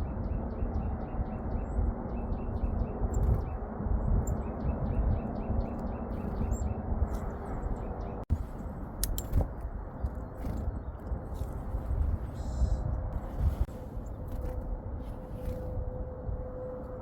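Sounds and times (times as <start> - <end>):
small songbirds chirping: 0.0 - 15.6
steady low rumble: 0.0 - 17.0.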